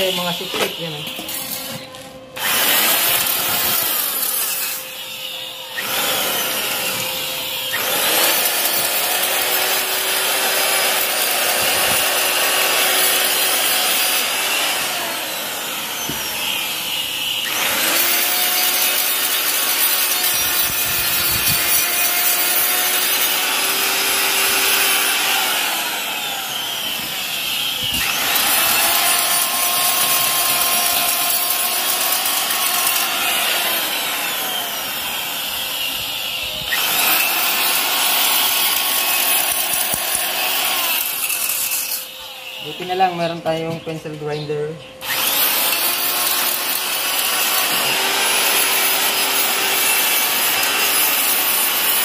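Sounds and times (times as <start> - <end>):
die grinder whining and grinding metal: 0.0 - 52.0.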